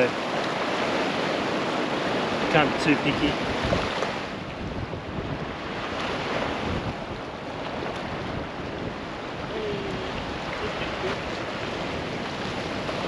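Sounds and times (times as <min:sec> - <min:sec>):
waves breaking over rocks: 0:00.0 - 0:13.0
wind buffeting microphone: 0:00.0 - 0:13.0.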